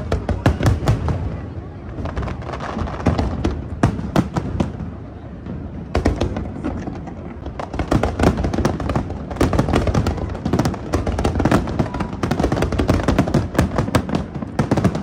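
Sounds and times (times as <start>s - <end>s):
fireworks bursts and bangs: 0.0s - 15.0s.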